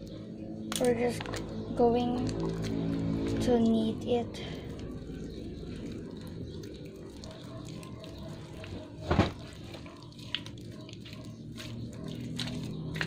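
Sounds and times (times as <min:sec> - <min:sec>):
slime squishing: 0:00.0 - 0:13.0.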